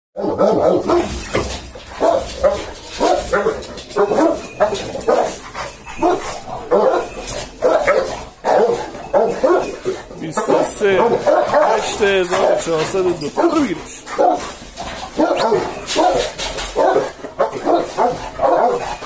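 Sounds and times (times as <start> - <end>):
dogs barking: 0.2 - 19.0.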